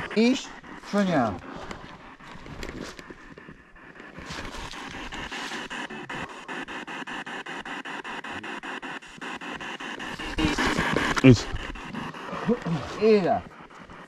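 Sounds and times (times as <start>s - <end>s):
choppy radio static pulses: 0.0s - 14.0s.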